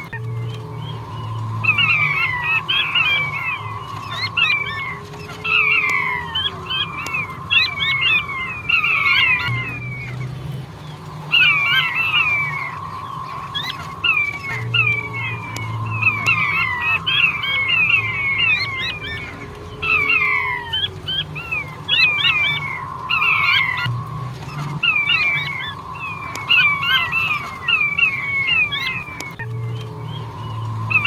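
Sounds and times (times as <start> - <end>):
quail calling whistled notes: 0.0 - 31.0.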